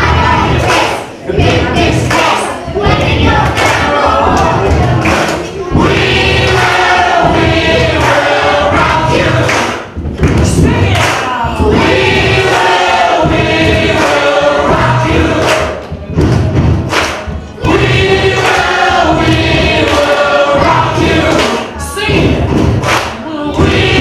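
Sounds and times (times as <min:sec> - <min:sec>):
children singing together: 0:00.0 - 0:09.8, 0:10.4 - 0:15.8, 0:17.5 - 0:24.0
backing music with low beat: 0:00.0 - 0:24.0.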